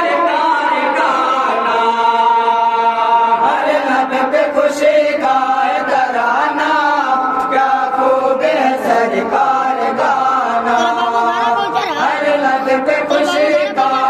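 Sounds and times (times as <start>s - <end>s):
men chanting in unison: 0.0s - 14.0s.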